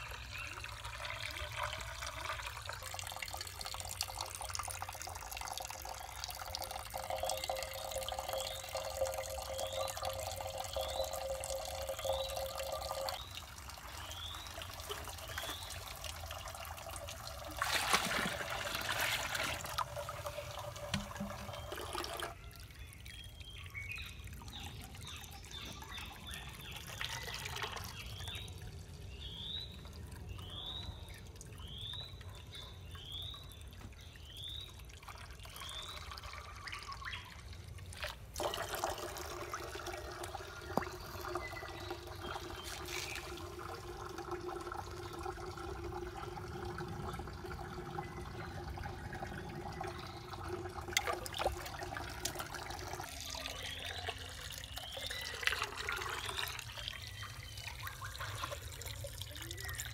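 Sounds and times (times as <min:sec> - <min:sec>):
water trickling and pouring: 0:00.0 - 0:59.9.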